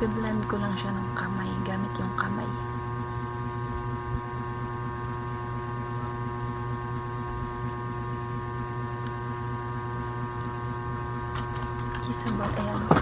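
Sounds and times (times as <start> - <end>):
machine hum with high tones: 0.0 - 13.0.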